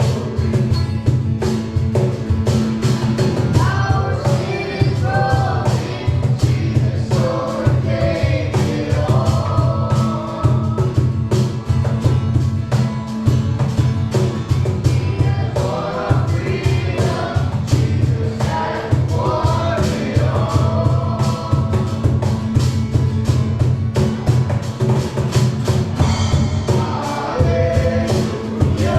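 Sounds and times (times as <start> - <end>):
voices singing with a band: 0.0 - 12.0, 14.2 - 23.6, 25.6 - 28.9.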